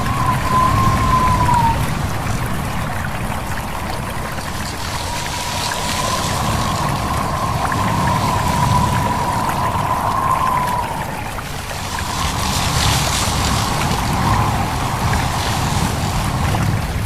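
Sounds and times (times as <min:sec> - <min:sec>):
thin whistling tone: 0:00.0 - 0:02.2, 0:03.5 - 0:16.2
stream water trickling: 0:00.0 - 0:17.0
wind rushing: 0:00.0 - 0:17.0.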